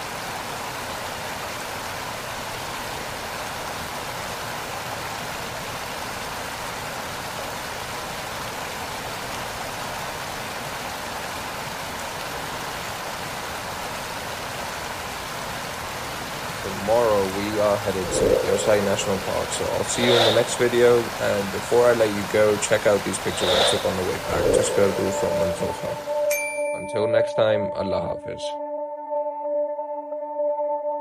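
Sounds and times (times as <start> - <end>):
waterfall rushing: 0.0 - 26.3.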